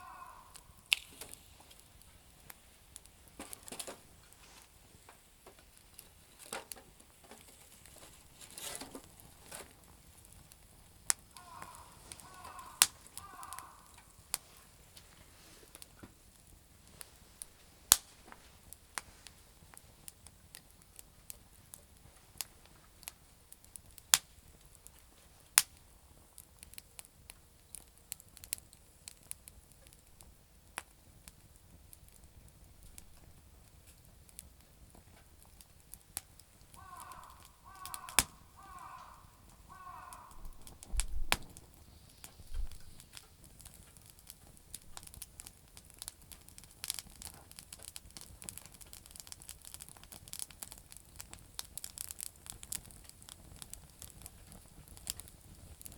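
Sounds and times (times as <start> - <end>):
campfire crackling and popping: 0.0 - 55.9
faint steady hiss: 0.0 - 55.9.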